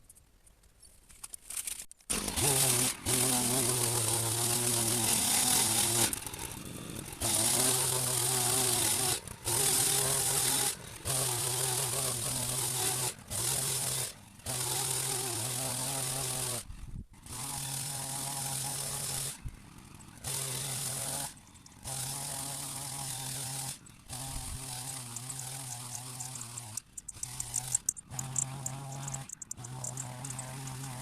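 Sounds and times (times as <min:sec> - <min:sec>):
power hedge trimmer cutting: 0:02.1 - 0:31.0.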